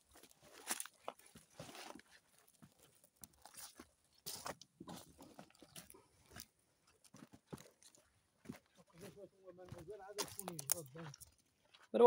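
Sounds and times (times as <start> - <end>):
crunching and rustling: 0.0 - 8.7, 9.7 - 11.4.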